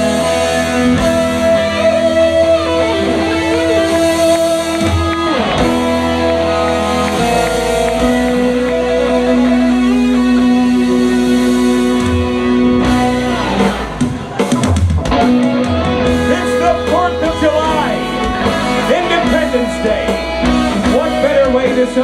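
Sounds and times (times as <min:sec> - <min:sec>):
electric guitar lead lines: 0:00.0 - 0:22.0
live rock band: 0:00.0 - 0:22.0.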